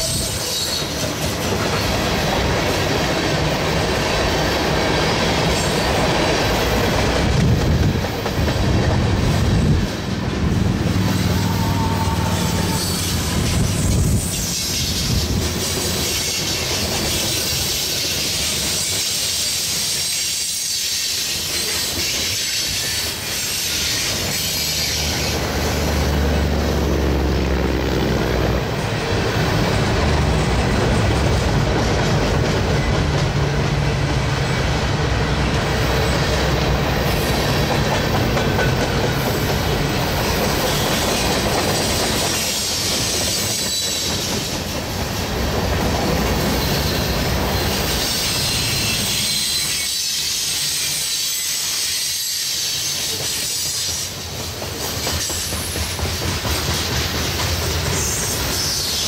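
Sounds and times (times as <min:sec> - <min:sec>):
steel wheels clattering on rails: 0:00.0 - 0:26.6, 0:28.7 - 0:59.0
freight train rolling past: 0:00.0 - 0:59.0.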